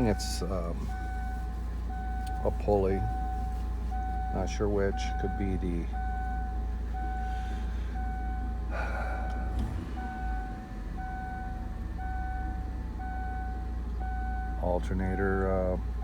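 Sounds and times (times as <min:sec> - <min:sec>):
car engine idling: 0:00.0 - 0:16.0
two-tone warning chime beeping: 0:00.0 - 0:16.0.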